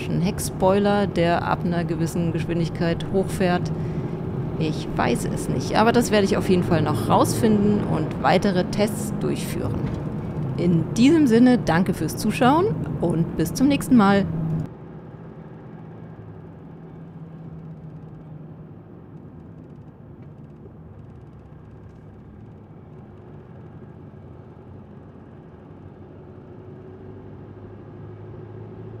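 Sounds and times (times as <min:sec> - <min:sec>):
van engine and tyre hum: 0:00.0 - 0:29.0.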